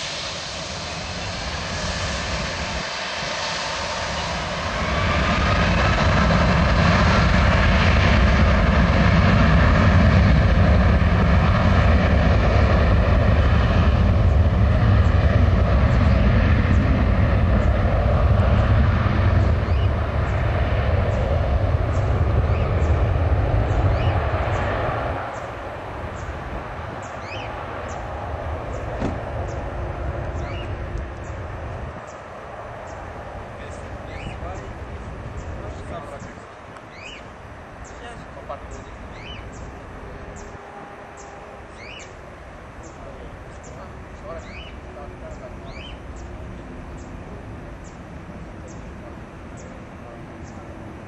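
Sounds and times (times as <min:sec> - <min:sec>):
faint engine whine: 0:00.0 - 0:51.0
jet engines spooling up: 0:00.0 - 0:51.0
low jet rumble: 0:00.0 - 0:51.0.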